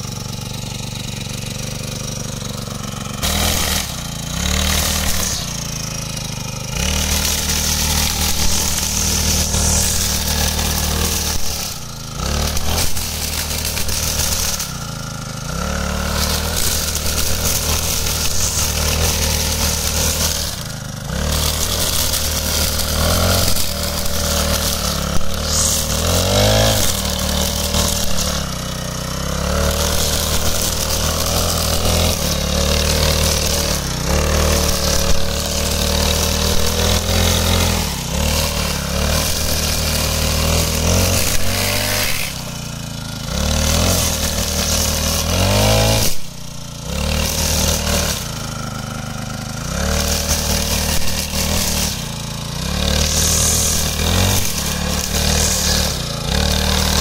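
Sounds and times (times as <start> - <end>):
brush cutter engine revving: 0.0 - 57.0
cutting head slicing grass: 0.7 - 57.0.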